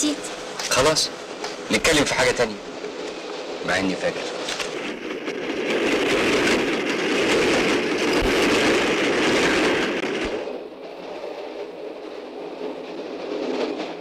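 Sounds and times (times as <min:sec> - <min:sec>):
rumble inside moving train: 0:00.0 - 0:14.0
train passing at speed: 0:00.0 - 0:14.0.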